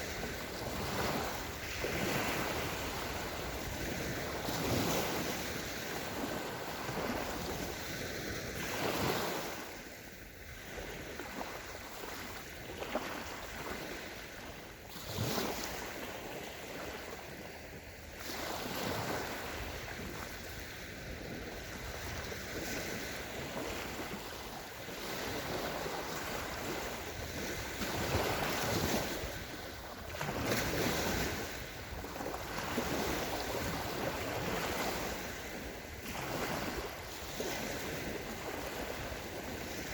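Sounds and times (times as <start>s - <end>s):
waves breaking on sandy shore: 0.0s - 39.9s.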